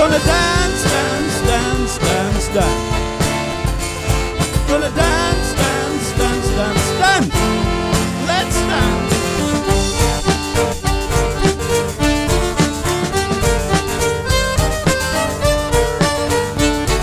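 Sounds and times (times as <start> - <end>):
accordion: 0.0 - 17.0
drum kit beat: 0.0 - 17.0
fiddle: 0.0 - 17.0.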